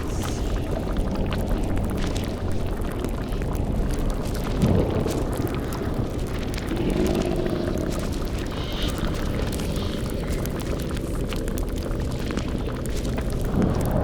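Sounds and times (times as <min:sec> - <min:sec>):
bubbling boiling cauldron: 0:00.0 - 0:14.0
low rumble: 0:00.0 - 0:14.0
small crackles: 0:00.0 - 0:14.0.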